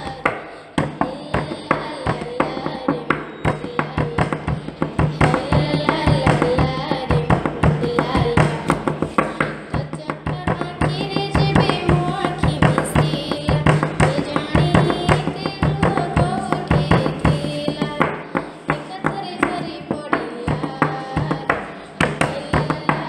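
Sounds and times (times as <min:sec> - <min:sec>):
girl singing devotional song: 0:00.0 - 0:23.0.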